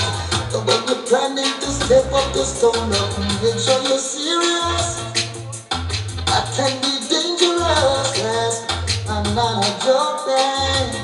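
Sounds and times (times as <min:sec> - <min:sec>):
heavy bass line: 0:00.0 - 0:11.0
shaker-like percussion beat: 0:00.0 - 0:11.0.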